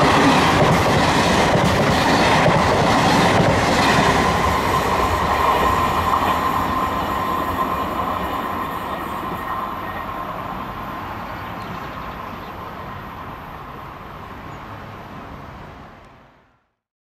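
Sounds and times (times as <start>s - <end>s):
train rumbling: 0.0s - 16.1s.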